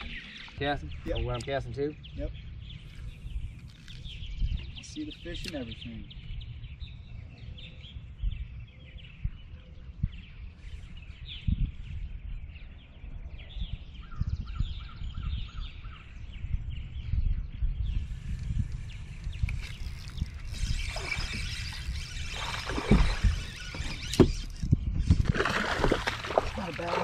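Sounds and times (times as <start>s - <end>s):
small birds chirping: 0.0s - 27.0s
wind on microphone: 0.0s - 27.0s.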